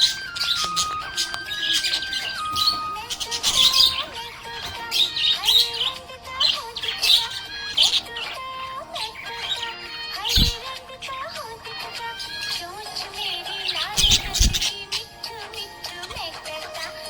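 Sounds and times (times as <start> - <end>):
budgerigar chirping and warbling: 0.0 - 16.2
synthesized children's song melody: 0.0 - 17.0.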